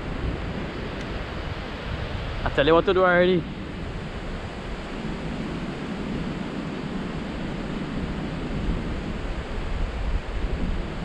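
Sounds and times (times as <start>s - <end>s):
ocean surf breaking: 0.0s - 11.0s
wind rushing: 0.0s - 11.0s.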